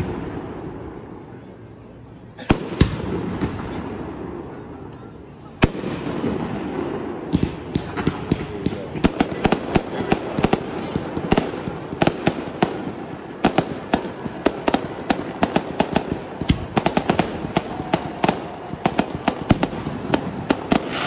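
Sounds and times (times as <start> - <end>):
fireworks popping and banging: 2.4 - 3.9, 5.6 - 21.0.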